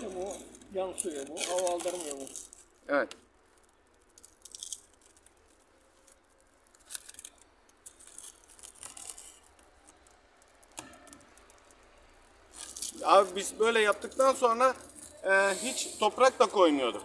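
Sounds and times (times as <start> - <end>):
plastic stretch film crackling: 0.0 - 17.0.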